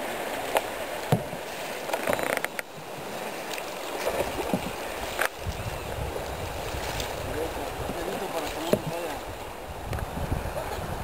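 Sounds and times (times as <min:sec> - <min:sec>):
water rushing around kayaks: 0:00.0 - 0:11.0.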